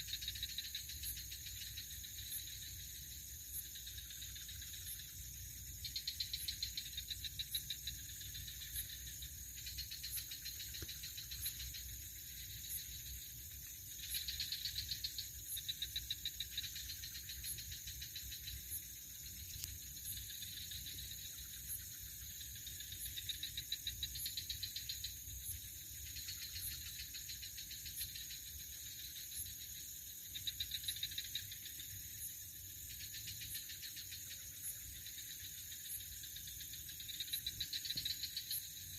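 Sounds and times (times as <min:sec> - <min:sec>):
insect chirp phrases: 0:00.0 - 0:38.9
insects trilling: 0:00.0 - 0:38.9.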